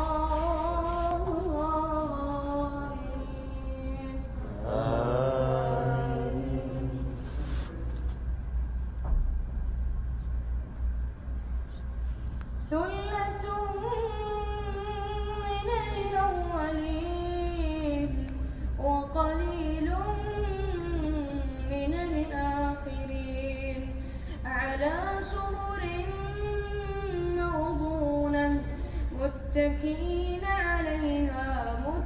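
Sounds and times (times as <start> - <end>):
boy reciting in melodic chant: 0.0 - 7.7, 12.7 - 32.0.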